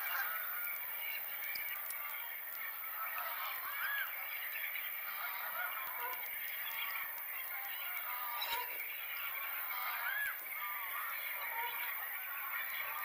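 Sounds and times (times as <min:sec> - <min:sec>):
flock of waterbirds calling: 0:00.0 - 0:13.0.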